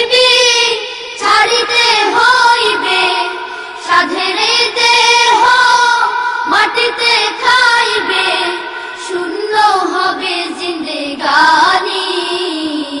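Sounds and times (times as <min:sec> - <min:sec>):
high voice singing: 0:00.0 - 0:13.0.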